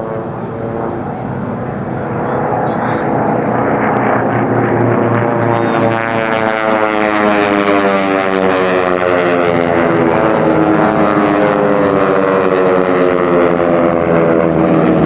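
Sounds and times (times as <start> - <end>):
propeller planes droning past: 0.0 - 15.0.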